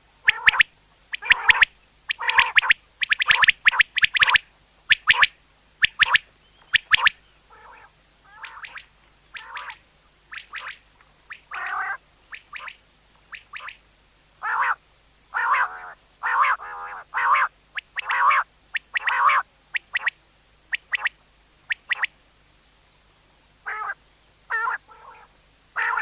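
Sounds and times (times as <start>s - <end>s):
quail calling: 0.2s - 13.8s, 14.4s - 22.2s, 23.6s - 26.0s.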